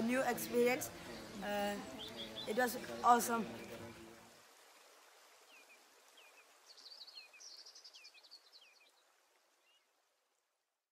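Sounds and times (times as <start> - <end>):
outdoor hiss: 0.0 - 10.8.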